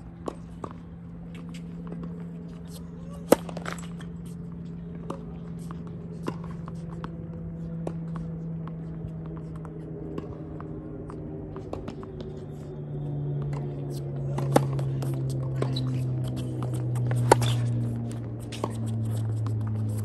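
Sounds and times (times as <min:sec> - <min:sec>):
steady low hum: 0:00.0 - 0:20.0
racket hitting tennis ball: 0:00.2 - 0:10.5, 0:13.4 - 0:20.0.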